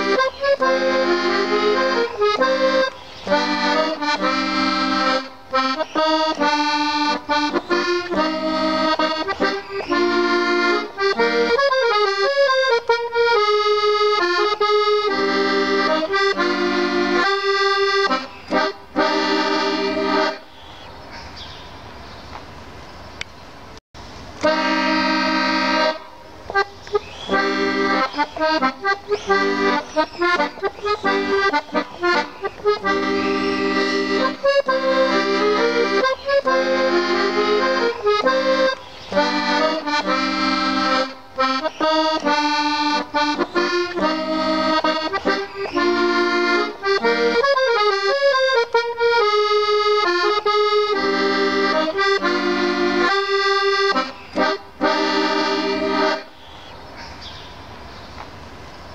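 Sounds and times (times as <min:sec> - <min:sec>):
concertina playing a tune: 0:00.0 - 0:20.5, 0:24.4 - 0:56.4.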